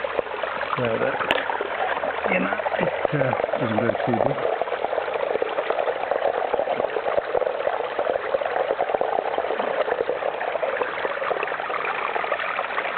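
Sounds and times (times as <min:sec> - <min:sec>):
stream and waterfall running: 0:00.0 - 0:12.9.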